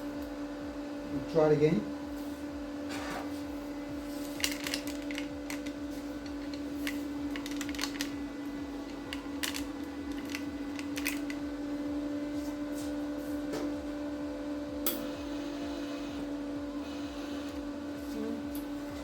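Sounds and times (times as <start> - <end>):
welder humming: 0.0 - 19.0.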